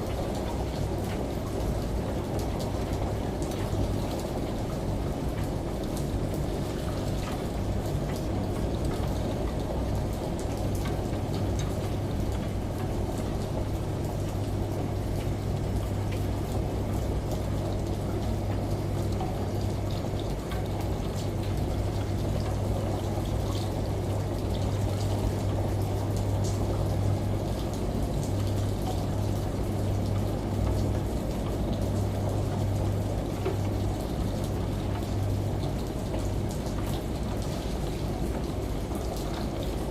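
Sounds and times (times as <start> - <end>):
running shower water: 0.0 - 39.9
steady rain: 0.0 - 39.9
washing machine humming: 0.0 - 39.9.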